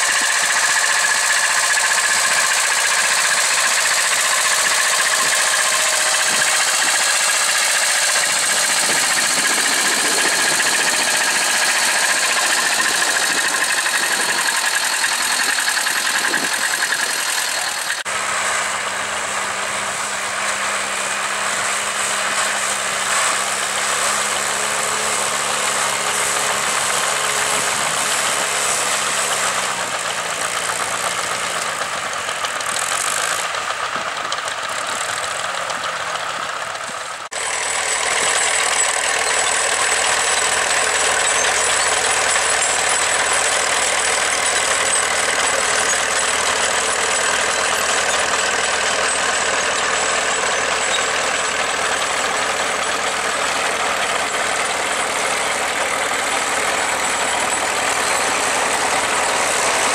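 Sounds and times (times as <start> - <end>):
tractor engines running under load: 0.0 - 59.9.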